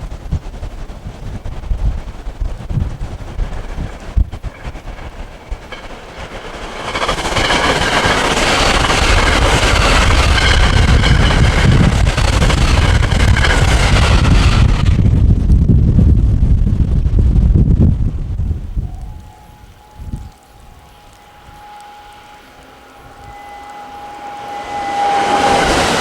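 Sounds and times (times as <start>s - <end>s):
low train rumble: 0.0s - 26.0s
train passing with rushing noise: 0.0s - 26.0s.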